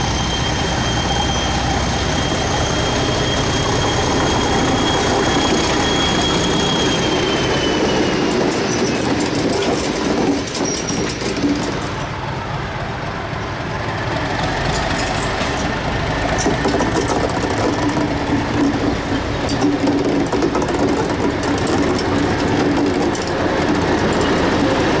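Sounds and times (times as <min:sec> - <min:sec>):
high wheel squeal: 0:00.0 - 0:12.2, 0:14.2 - 0:25.0
locomotive engine humming: 0:00.0 - 0:25.0
wheels clicking on rails: 0:00.6 - 0:12.3, 0:13.6 - 0:25.0.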